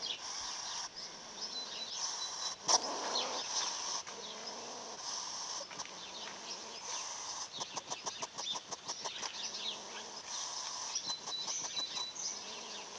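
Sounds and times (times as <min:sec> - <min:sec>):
hedgehog snorting and huffing: 0:00.0 - 0:12.9.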